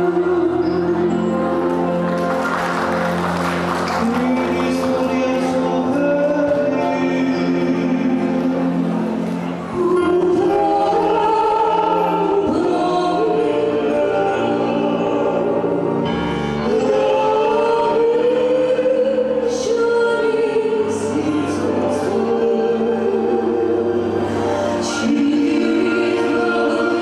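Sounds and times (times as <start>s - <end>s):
man and woman singing duet: 0.0s - 1.5s, 3.8s - 27.0s
instrumental accompaniment: 0.0s - 27.0s.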